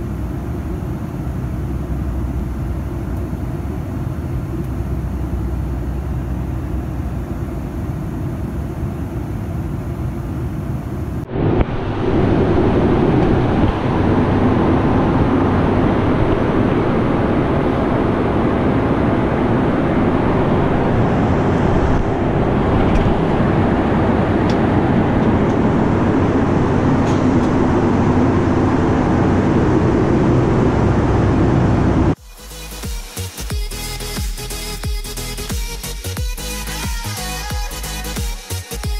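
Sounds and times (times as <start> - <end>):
airliner cabin roar: 0.0 - 32.2.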